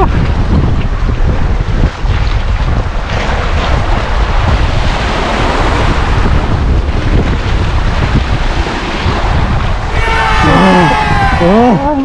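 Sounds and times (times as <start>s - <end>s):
sea waves washing against rocks: 0.0s - 12.0s
wind buffeting microphone: 0.0s - 12.0s.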